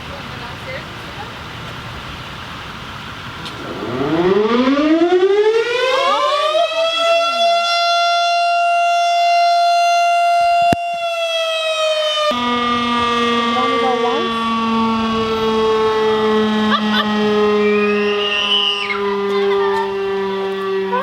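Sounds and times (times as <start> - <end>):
fire siren wailing: 3.4 - 21.0.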